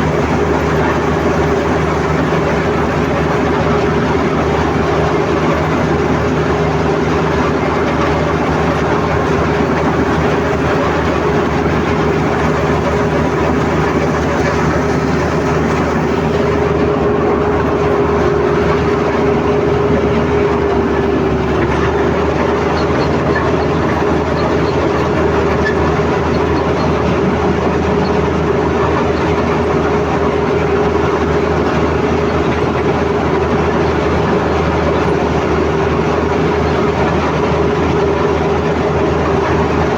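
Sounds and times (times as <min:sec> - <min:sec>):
bulldozer diesel engine whining: 0:00.0 - 0:39.9.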